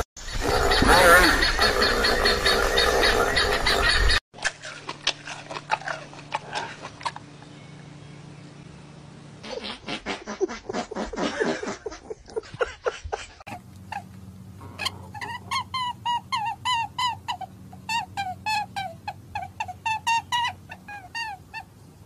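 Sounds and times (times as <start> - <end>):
steady low hum: 0.4 - 22.0.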